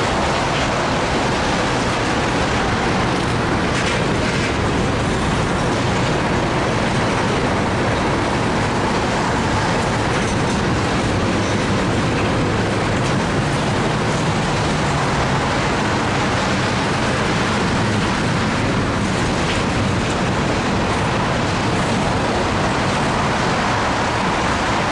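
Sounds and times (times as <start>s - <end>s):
freight train wheels rumbling: 0.0s - 24.9s.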